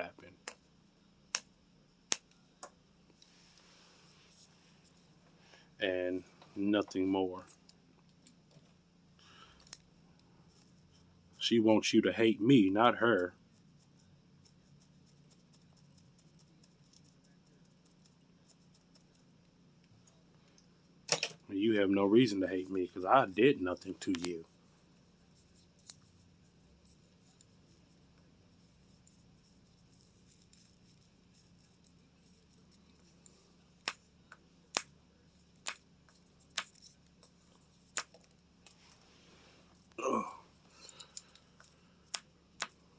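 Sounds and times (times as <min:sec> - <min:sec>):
faint low hum: 0:00.0 - 0:42.9.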